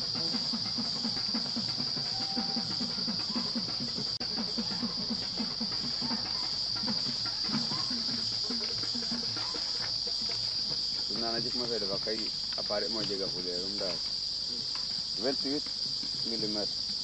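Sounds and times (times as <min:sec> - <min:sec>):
forest insects droning: 0:00.0 - 0:17.0.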